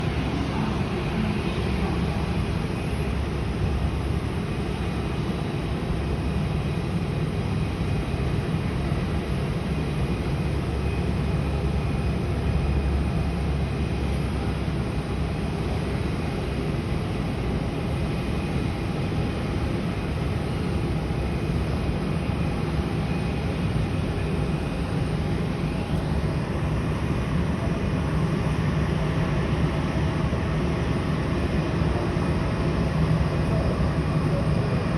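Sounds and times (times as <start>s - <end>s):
airliner jet engine rumble: 0.0s - 34.9s
faint high whine: 0.0s - 34.9s.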